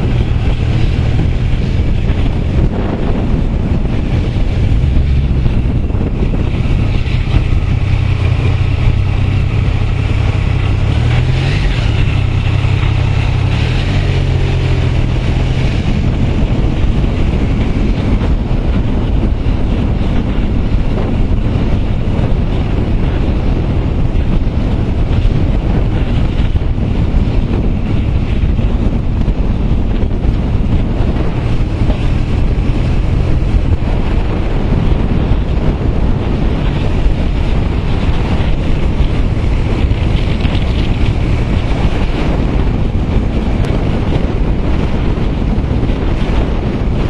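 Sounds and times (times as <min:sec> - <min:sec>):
motorcycle engine running: 0:00.0 - 0:47.0
wind rushing over microphone: 0:00.0 - 0:47.0.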